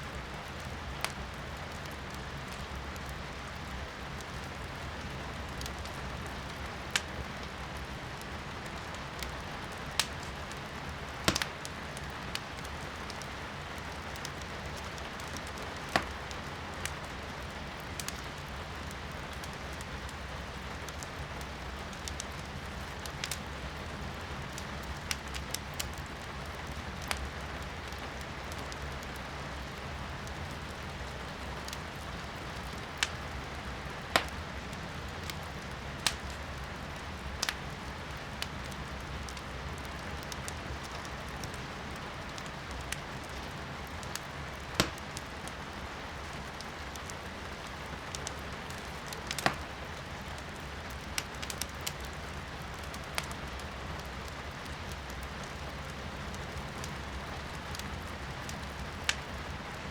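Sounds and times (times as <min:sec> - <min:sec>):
firewood crackling in fireplace: 0:00.0 - 0:59.9
rain hiss from indoors: 0:00.0 - 0:59.9.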